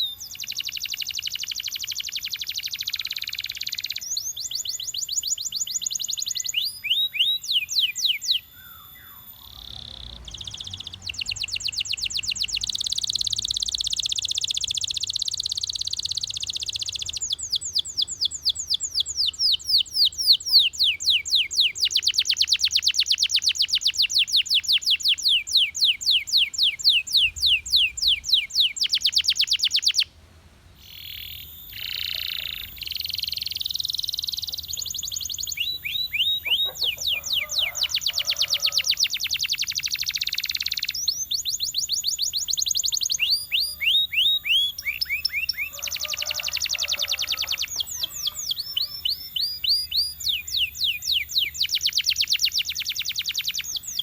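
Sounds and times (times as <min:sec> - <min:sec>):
canary singing fast trills: 0:00.0 - 0:30.1, 0:30.8 - 0:54.0.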